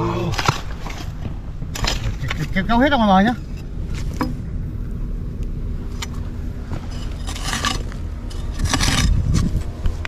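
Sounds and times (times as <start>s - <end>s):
earth scraping and crumbling: 0.0s - 10.0s
rough rustling: 0.0s - 10.0s
steady low rumble: 0.0s - 10.0s.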